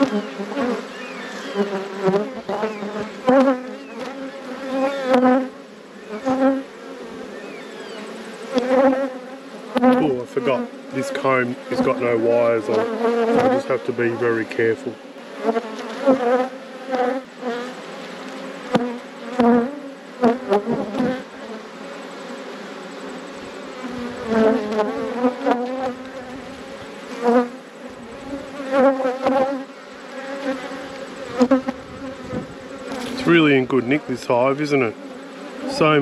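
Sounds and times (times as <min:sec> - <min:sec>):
bees buzzing past: 0:00.0 - 0:36.0
drone of bee colony: 0:00.0 - 0:36.0.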